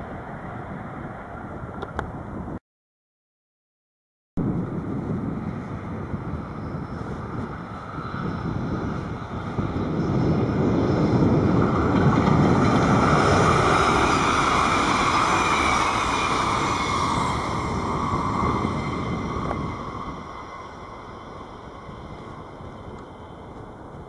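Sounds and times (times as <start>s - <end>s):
train passing by: 0.0s - 1.8s, 4.6s - 24.0s.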